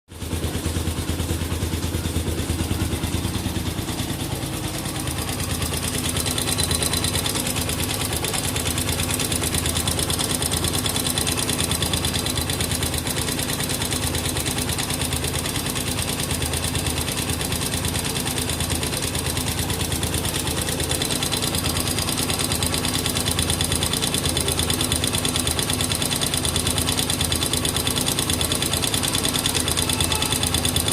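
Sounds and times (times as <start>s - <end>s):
motorcycle engine idling: 0.1s - 30.9s
rapid metallic ticking: 0.2s - 30.9s.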